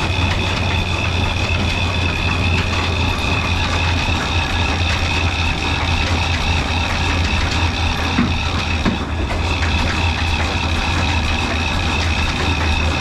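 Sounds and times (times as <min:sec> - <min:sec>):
diesel engine running: 0:00.0 - 0:13.0
high-pitched whine: 0:00.0 - 0:13.0.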